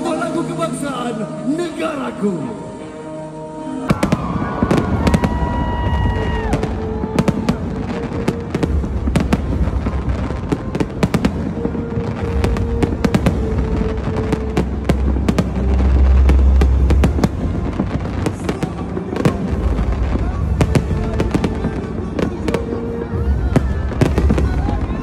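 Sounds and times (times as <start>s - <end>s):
fireworks bangs and crackles: 3.9s - 25.0s.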